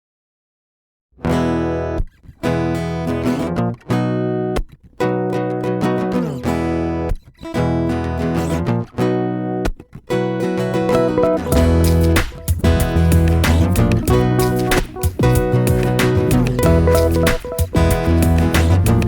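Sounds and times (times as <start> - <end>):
strummed acoustic guitar chords: 1.3 - 19.0.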